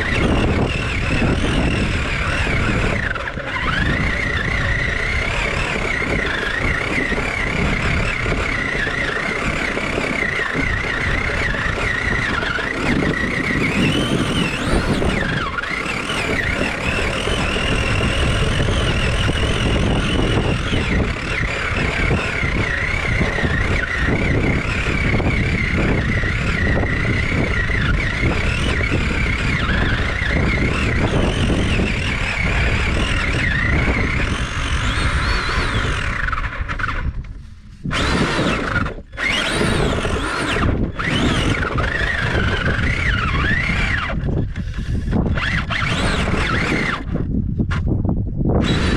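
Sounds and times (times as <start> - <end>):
small nitro engine running: 0.0 - 48.9.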